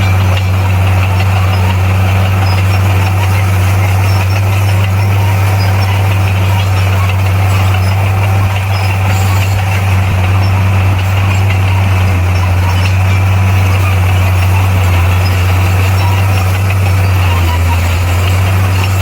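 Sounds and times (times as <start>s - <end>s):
diesel engine low hum: 0.0s - 19.0s.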